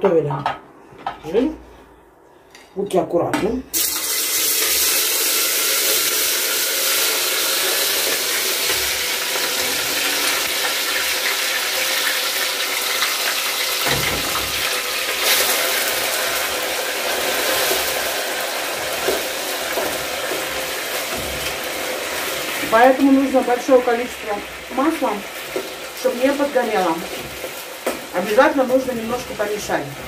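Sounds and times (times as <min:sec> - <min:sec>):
meat sizzling in hot oil: 0:03.8 - 0:30.0.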